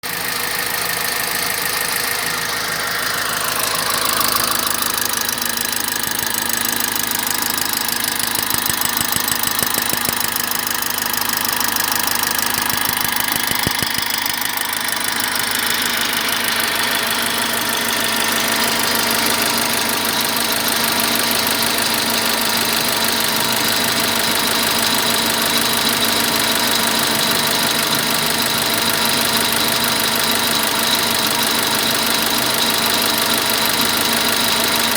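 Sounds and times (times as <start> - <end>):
car engine idling rough: 0.0 - 34.9.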